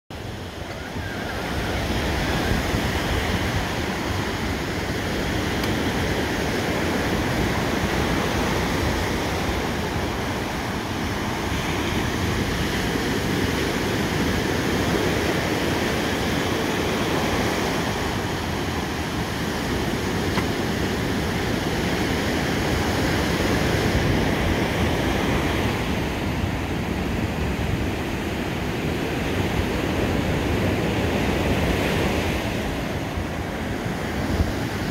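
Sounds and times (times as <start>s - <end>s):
wind: 0.1s - 34.9s
surf breaking on beach: 0.2s - 34.9s.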